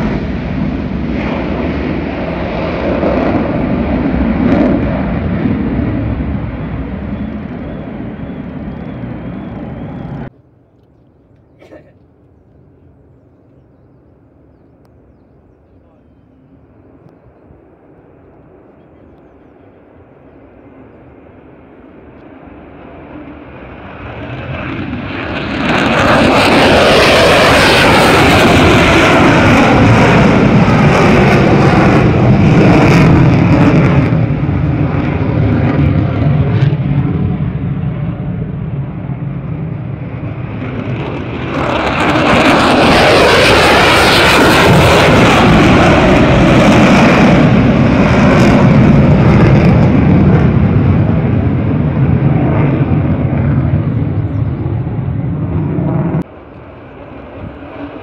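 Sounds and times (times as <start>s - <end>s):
fighter jet passing low: 0.0s - 10.7s, 12.1s - 58.0s.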